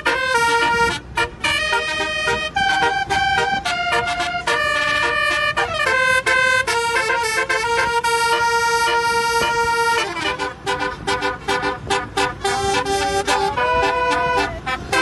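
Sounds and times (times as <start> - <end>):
bus horn playing tune: 0.0 - 15.0.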